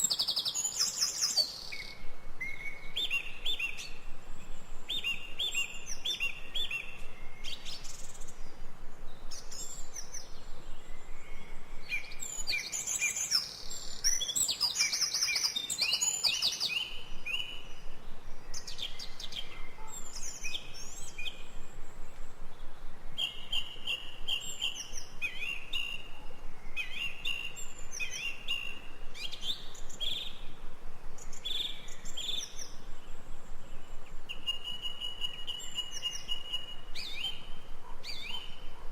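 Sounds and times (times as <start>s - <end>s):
songbirds chirping and singing: 0.0s - 30.6s, 31.2s - 38.8s.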